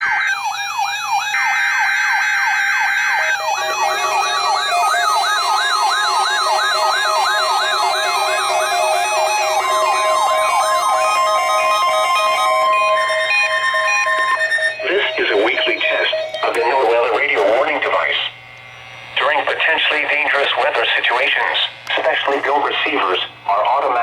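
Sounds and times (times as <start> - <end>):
electronic siren sweeping: 0.0 - 20.4
steady electronic tones: 1.1 - 23.5.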